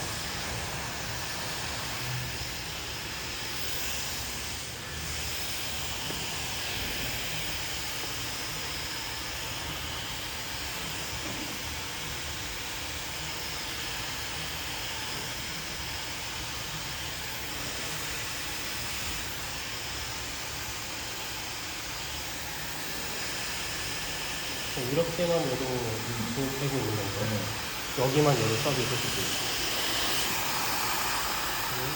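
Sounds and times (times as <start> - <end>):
hair dryer blowing: 0.0 - 31.9.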